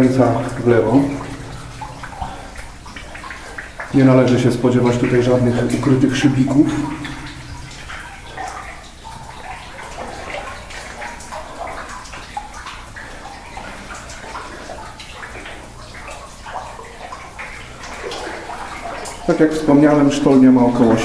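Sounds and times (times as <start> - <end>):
water splashing around wading legs: 0.0 - 21.0.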